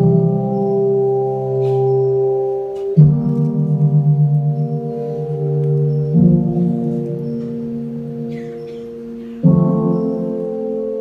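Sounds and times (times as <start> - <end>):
deep ringing sustained notes: 0.0 - 11.0.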